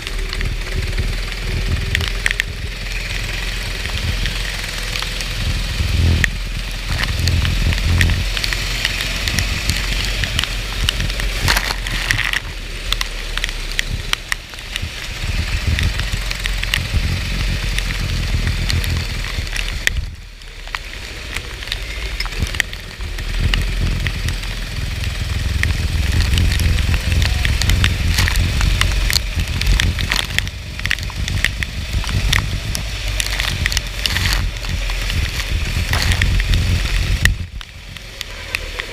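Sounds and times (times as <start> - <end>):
go-kart engine running: 0.0 - 38.9
rain clicking on wet track: 0.0 - 38.9
wind and spray noise: 0.0 - 38.9.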